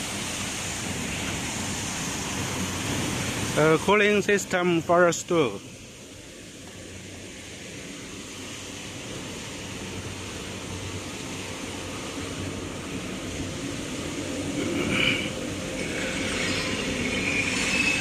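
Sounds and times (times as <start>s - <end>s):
industrial machinery noise: 0.0s - 18.0s.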